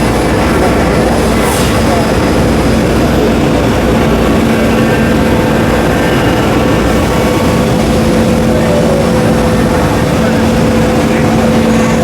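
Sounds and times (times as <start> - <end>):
cnc router humming: 0.0 - 12.0.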